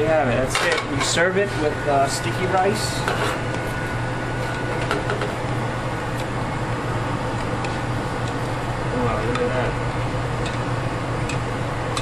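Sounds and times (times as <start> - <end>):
mechanical hum with rushing noise: 0.0 - 12.0.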